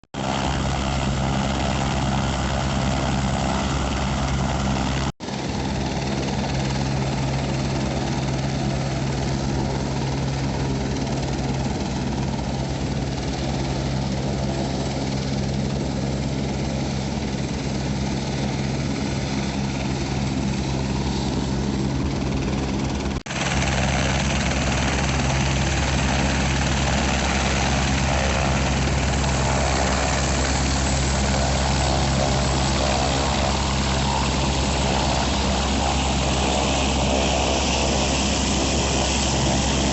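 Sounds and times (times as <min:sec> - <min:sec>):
helicopter drone: 0:00.2 - 0:39.9.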